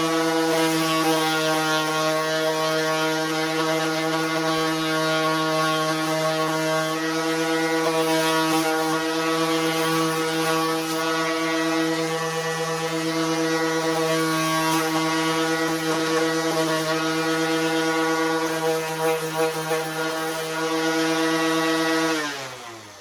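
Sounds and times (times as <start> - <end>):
orbital sander on wood: 0.0 - 23.0.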